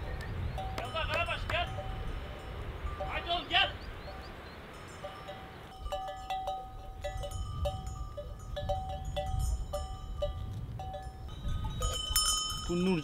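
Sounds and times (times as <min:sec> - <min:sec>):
goat bells clanking: 0:00.5 - 0:13.0.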